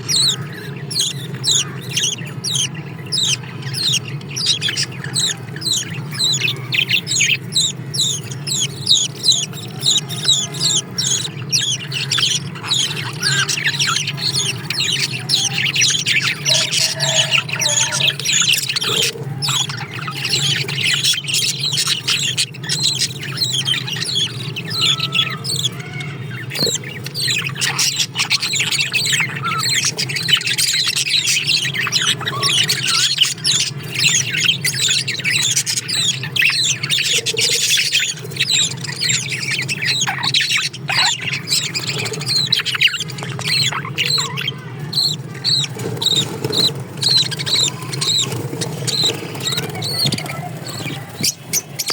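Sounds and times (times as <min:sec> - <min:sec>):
caged birds chirping and squawking: 0:00.0 - 0:51.9
steady low hum: 0:00.0 - 0:51.9.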